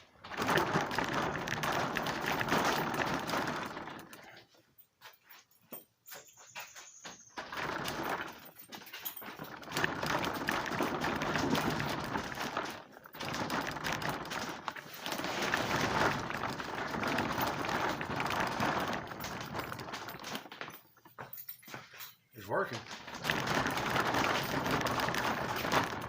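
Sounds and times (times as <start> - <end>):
casters rolling and rattling on floor: 0.0 - 26.0.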